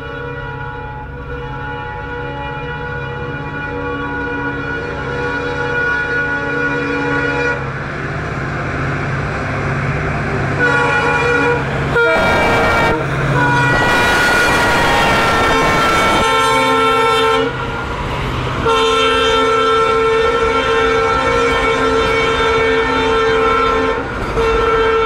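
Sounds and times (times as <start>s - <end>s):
train horn blasts: 0.0s - 7.7s, 10.5s - 25.0s
diesel locomotive engine drone: 0.0s - 25.0s
rush of passing train: 0.0s - 25.0s.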